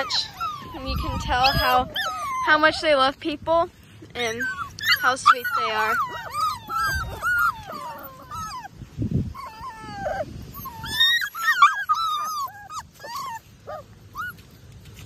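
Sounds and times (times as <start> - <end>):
puppies whining and whimpering: 0.0 - 3.2, 4.1 - 14.6.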